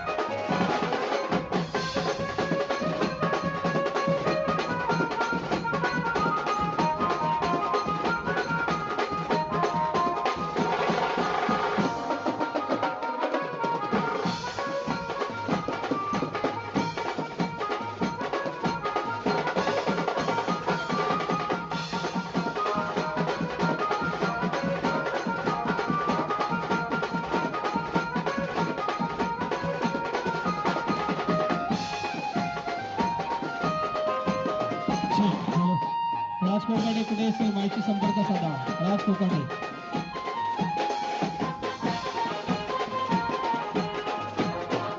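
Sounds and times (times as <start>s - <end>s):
music with busy drum beat: 0.0s - 44.9s.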